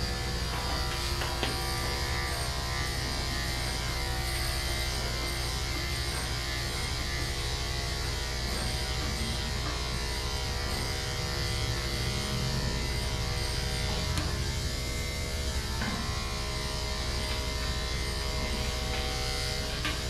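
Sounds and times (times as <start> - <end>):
electric clippers buzzing: 0.0 - 20.0.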